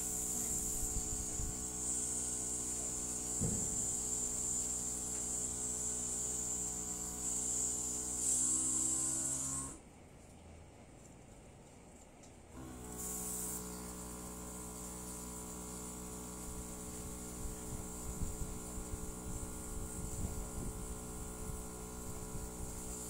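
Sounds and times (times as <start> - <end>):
airbrush spraying hiss: 0.0 - 9.8, 12.6 - 23.0
compressor motor hum: 0.0 - 9.8, 12.6 - 23.0.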